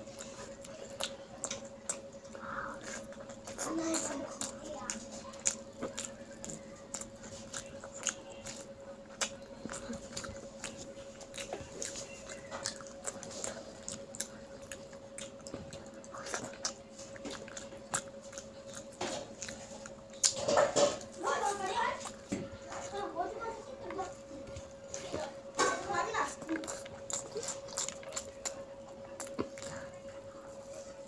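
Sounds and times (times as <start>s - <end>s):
faint steady hum: 0.0s - 31.0s
wet chewing and lip-smacking: 0.0s - 31.0s.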